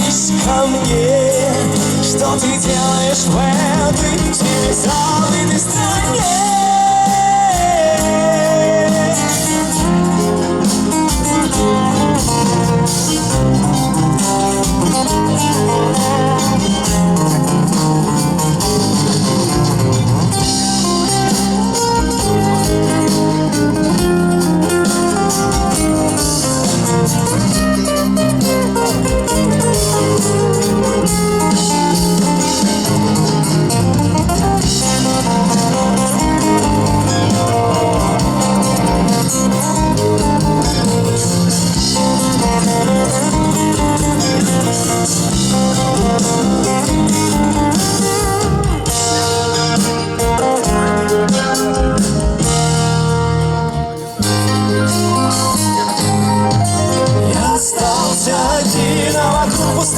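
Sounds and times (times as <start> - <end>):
acoustic guitar melody: 0.0 - 59.9
strummed guitar accompaniment: 0.0 - 59.9.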